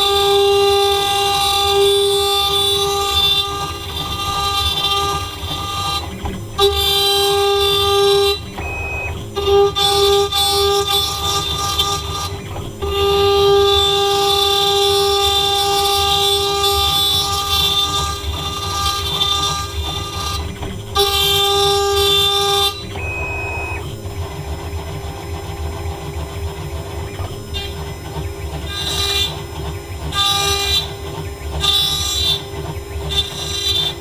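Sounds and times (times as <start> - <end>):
end mill cutting aluminum: 0.0 - 34.0
router spindle whining: 0.0 - 34.0.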